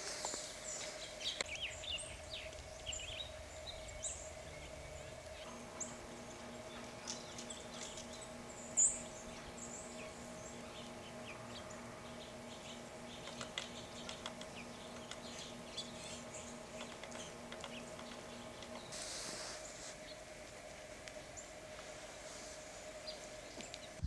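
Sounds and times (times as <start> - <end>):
birds chirping: 0.0 - 24.0
faint hum: 0.0 - 24.0.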